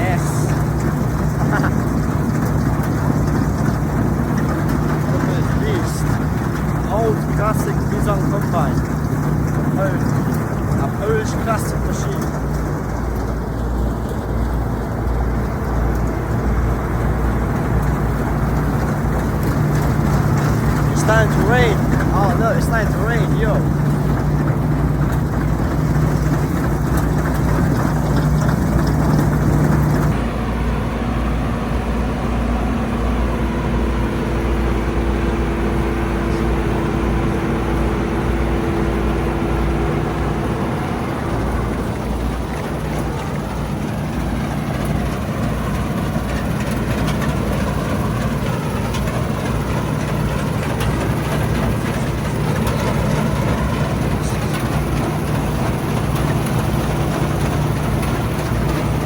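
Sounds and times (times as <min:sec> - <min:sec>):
combine harvester engine droning: 0:00.0 - 0:59.0
steady higher whine: 0:00.0 - 0:59.0.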